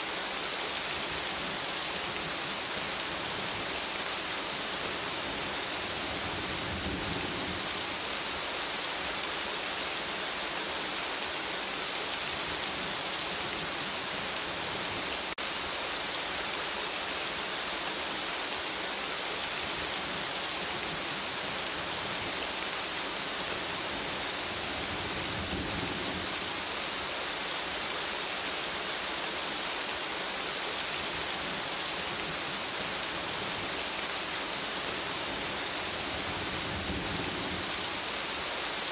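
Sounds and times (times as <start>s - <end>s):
steady rain on foliage: 0.0s - 38.9s.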